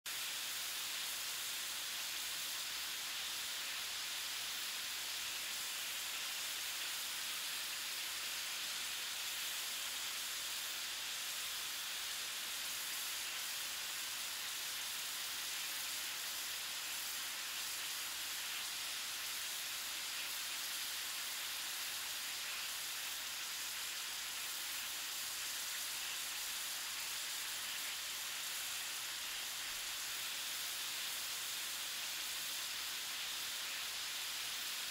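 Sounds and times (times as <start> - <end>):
food frying on a stove: 0.1 - 34.9.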